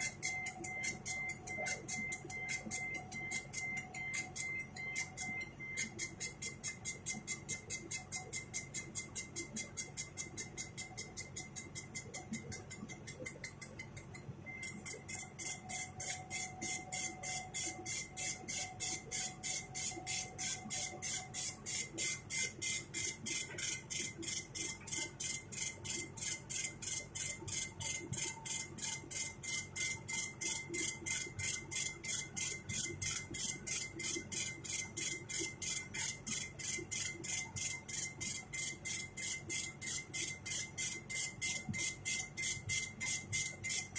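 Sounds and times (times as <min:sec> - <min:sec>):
cnc machine pulsing tone: 0:00.0 - 0:43.9.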